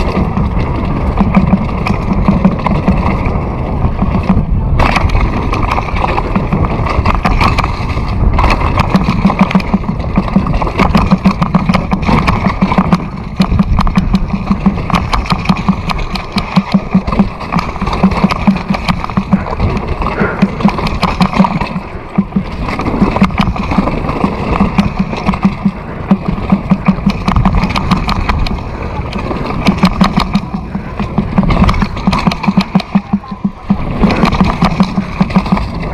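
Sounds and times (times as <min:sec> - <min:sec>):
vehicle engine running: 0:00.0 - 0:35.9.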